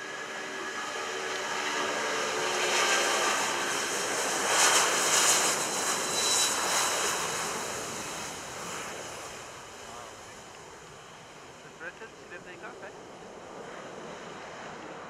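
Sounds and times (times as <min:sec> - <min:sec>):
jet engine roar: 0:00.0 - 0:15.0
steady high whine: 0:00.0 - 0:15.0.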